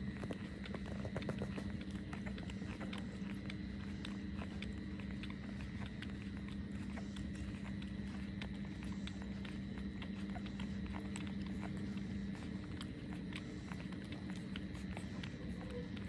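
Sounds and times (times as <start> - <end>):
puppies suckling wet smacks: 0.0 - 16.0
steady background hum: 0.0 - 16.0.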